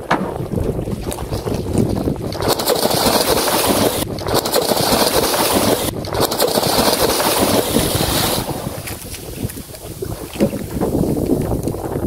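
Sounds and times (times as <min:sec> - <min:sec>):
water splashing against boat: 0:00.0 - 0:12.0
wind buffeting microphone: 0:00.0 - 0:12.0.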